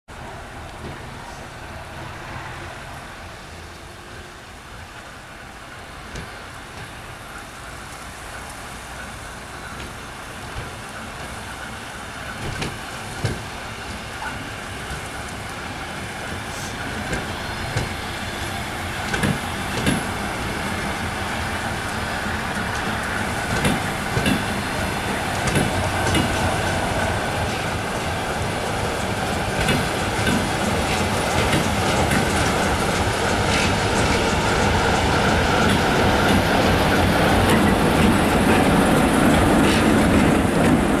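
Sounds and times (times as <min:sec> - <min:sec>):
train rolling rumble: 0:00.1 - 0:41.0
train wheels clicking over rail joints: 0:04.7 - 0:41.0.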